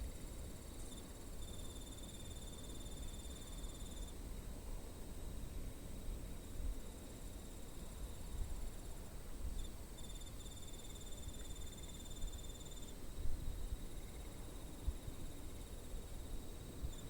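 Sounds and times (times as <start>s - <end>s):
insects chirping in trills: 0.0s - 17.0s.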